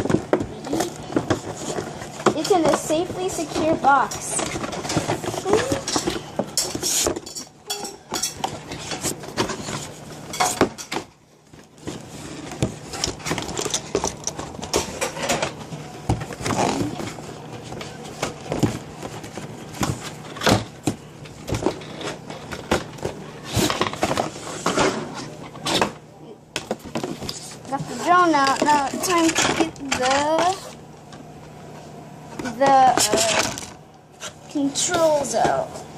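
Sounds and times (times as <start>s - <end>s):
packaging rustling and scraping: 0.0s - 7.5s, 8.2s - 10.9s, 11.5s - 26.0s, 26.7s - 30.8s, 31.7s - 35.7s.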